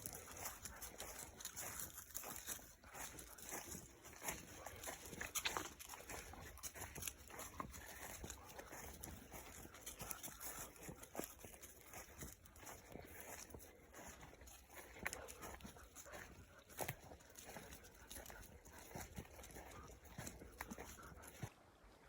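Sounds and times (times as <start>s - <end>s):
footsteps rustling on forest floor: 0.0s - 21.7s.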